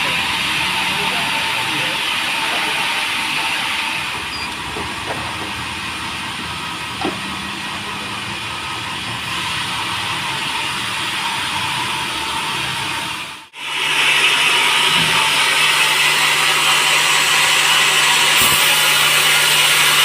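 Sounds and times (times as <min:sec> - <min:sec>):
sawmill machinery hissing: 0:00.0 - 0:20.0.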